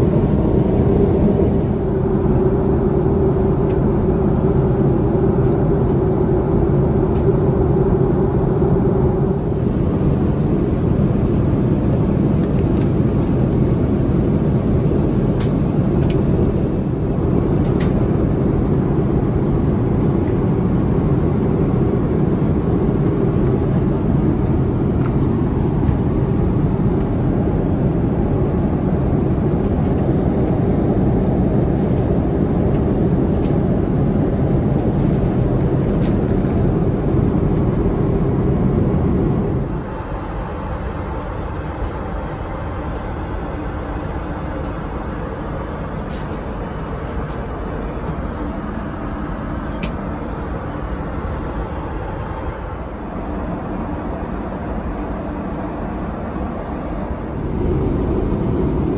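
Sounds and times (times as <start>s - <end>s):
aircraft cabin airflow and engines: 0.0s - 58.9s.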